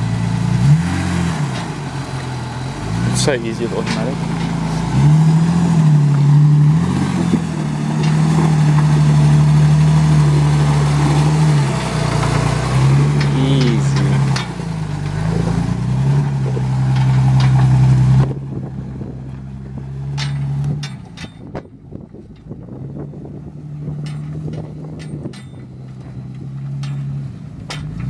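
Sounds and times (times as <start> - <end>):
engine running at low revs: 0.0 - 28.0.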